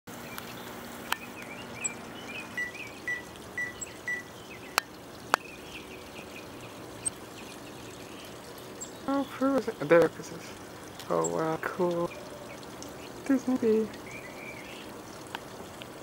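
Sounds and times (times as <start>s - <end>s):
songbirds chirping: 0.1s - 15.9s.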